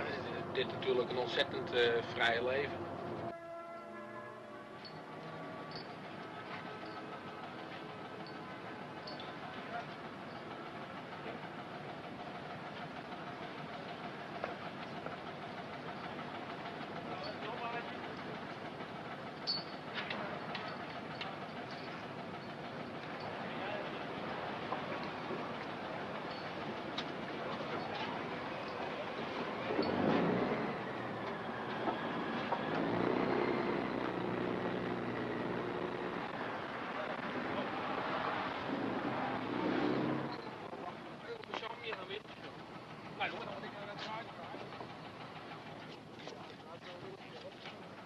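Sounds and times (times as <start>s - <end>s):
boat engine droning: 0.0s - 48.0s.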